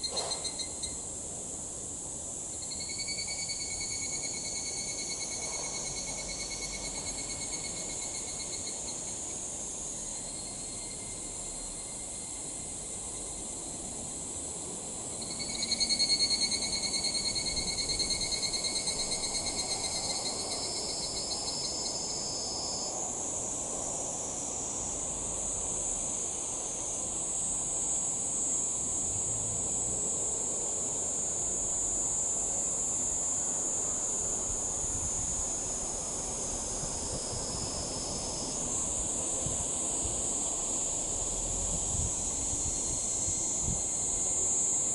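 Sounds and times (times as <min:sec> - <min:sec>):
cicadas trilling: 0:00.0 - 0:44.9.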